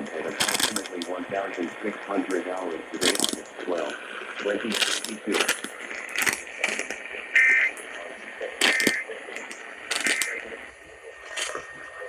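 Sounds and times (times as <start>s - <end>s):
radio static crackles: 0.0s - 12.0s
warbling data-tone bursts: 0.0s - 12.0s.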